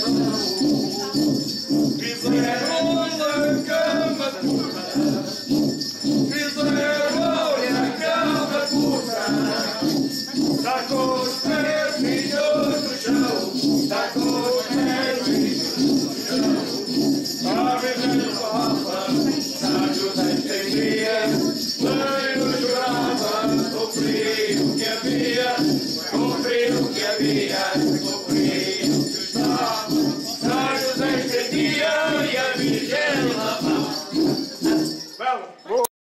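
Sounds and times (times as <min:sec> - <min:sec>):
friction drums grunting: 0:00.0 - 0:35.0
people singing: 0:00.0 - 0:35.1.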